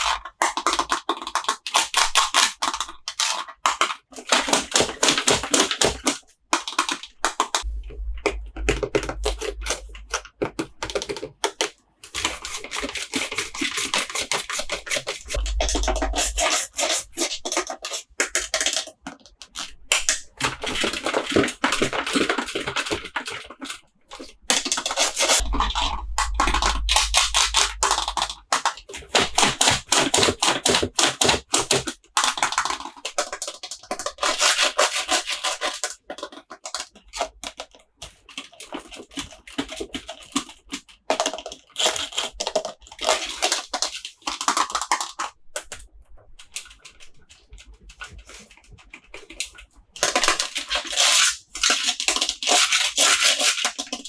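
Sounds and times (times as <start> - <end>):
handling plastic toys and packaging: 9.2 - 54.0.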